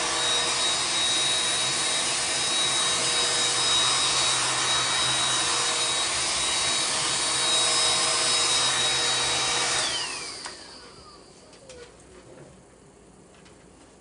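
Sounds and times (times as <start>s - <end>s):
hair dryer running: 0.0s - 11.5s.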